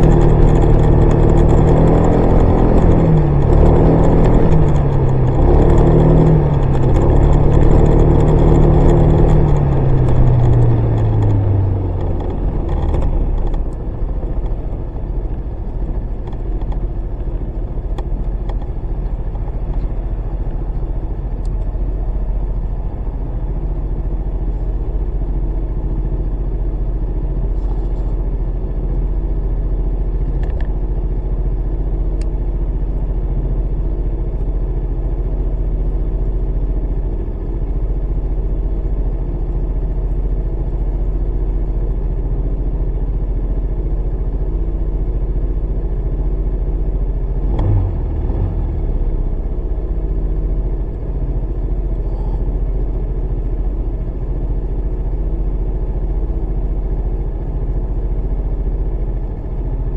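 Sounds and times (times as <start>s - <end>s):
scooter engine idling: 9.5s - 47.4s, 49.0s - 59.9s.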